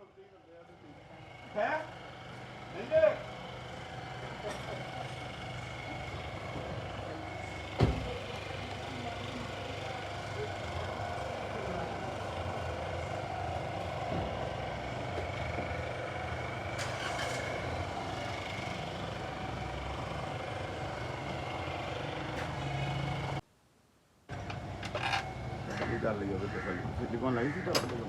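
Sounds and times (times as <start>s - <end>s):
car engine idling: 0.2s - 23.4s.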